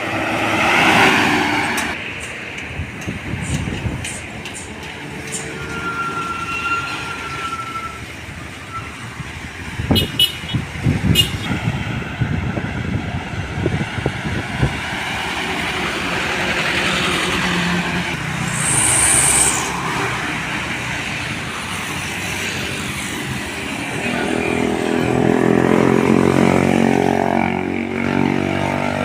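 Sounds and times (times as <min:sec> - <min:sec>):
heavy trucks passing: 0:00.0 - 0:29.0.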